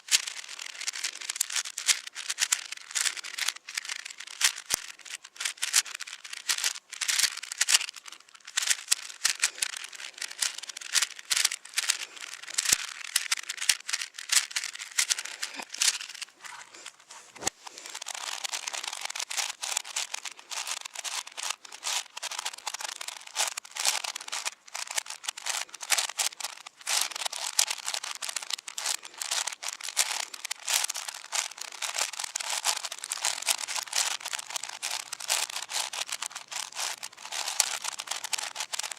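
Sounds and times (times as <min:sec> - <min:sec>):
speed cube layers clicking: 0:00.0 - 0:38.9.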